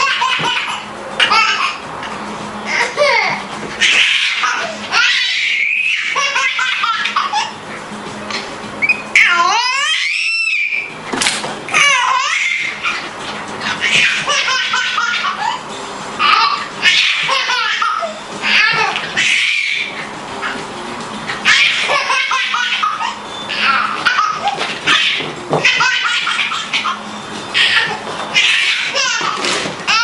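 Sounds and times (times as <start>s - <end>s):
baby laughing: 0.0s - 7.6s, 11.7s - 20.6s, 21.4s - 30.0s.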